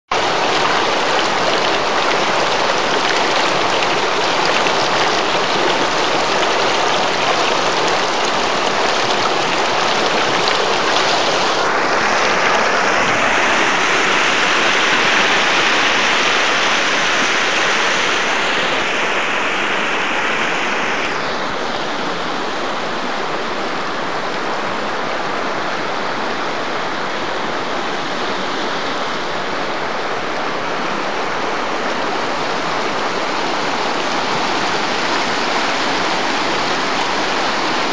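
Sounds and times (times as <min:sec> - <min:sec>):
river rushing over rocks: 0:00.0 - 0:37.9.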